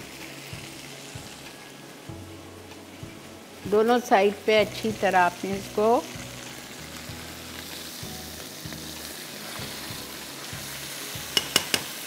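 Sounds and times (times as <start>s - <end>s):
beef sizzling in hot oil: 0.0s - 12.0s.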